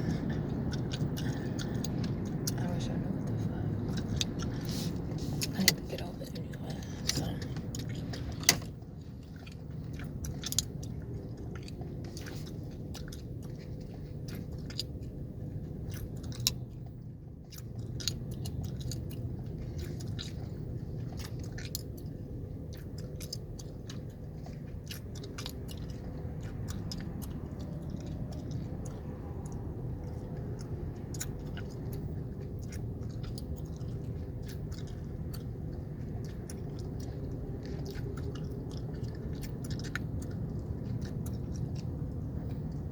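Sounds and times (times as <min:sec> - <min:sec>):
car cabin idling hum: 0:00.0 - 0:37.4
gum chewing with wet smacks: 0:00.0 - 0:42.9.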